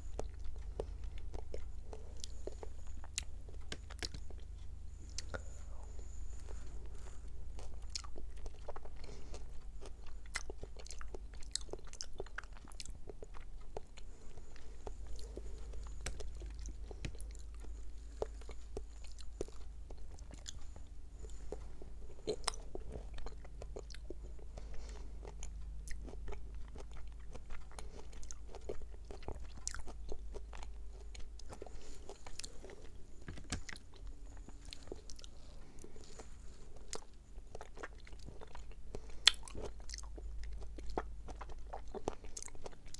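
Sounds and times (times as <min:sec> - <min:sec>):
steady low hum: 0:00.0 - 0:42.9
wet chewing clicks and squishes: 0:00.0 - 0:42.9.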